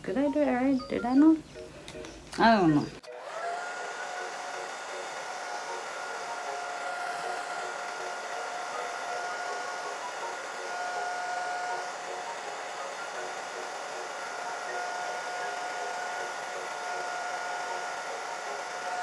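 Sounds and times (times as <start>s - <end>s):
hair dryer running: 3.0s - 19.0s.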